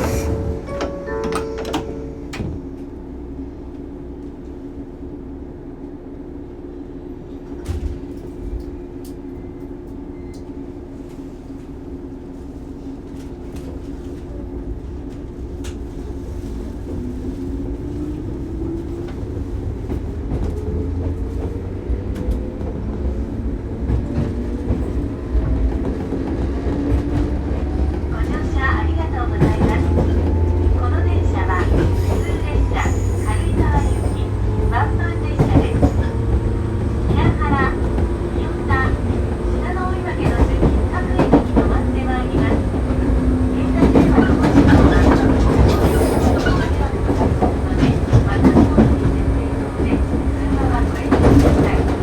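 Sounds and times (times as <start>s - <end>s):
electric train hum: 0.0s - 52.0s.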